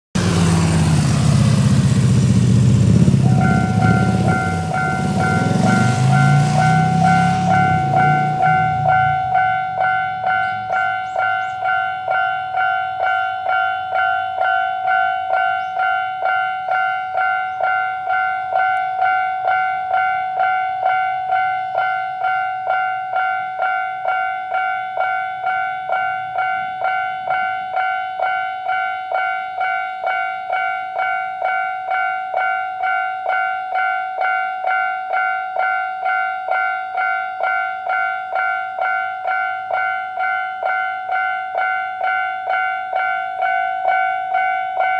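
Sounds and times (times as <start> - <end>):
level crossing warning bell: 0.5 - 44.9.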